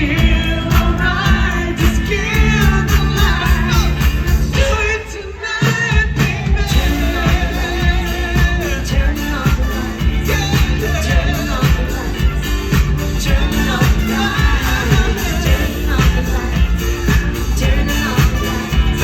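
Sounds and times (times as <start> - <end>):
live pop band: 0.0 - 19.0
person singing: 0.0 - 19.0.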